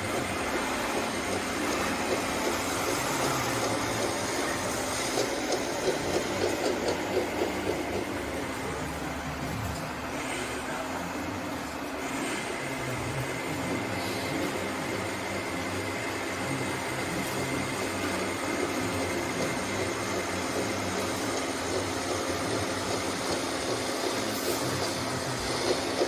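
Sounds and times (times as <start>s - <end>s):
machine running with low rumble: 0.0s - 26.0s.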